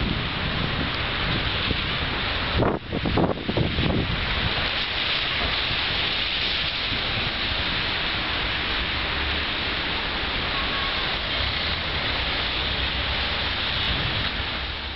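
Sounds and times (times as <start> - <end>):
blizzard wind hissing: 0.0 - 14.9
car tyres on snowy road: 0.0 - 14.9
wind gusts on microphone: 0.0 - 14.9.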